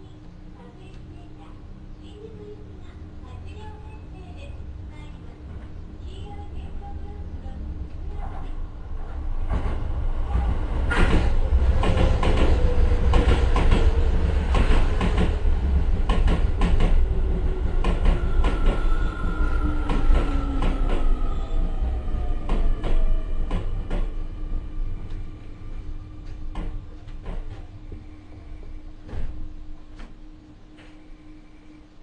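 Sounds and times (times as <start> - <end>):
train low rumble: 0.0 - 32.0.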